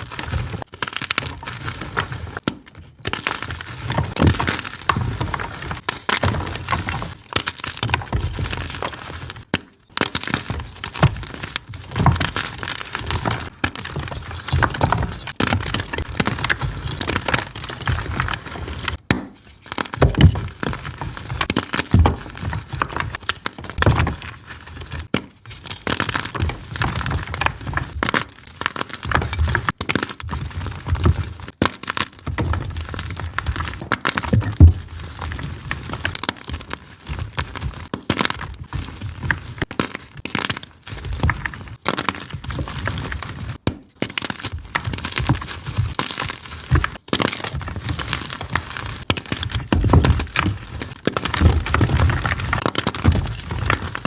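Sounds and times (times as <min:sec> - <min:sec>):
chalk blocks crunching: 0:00.0 - 0:54.0.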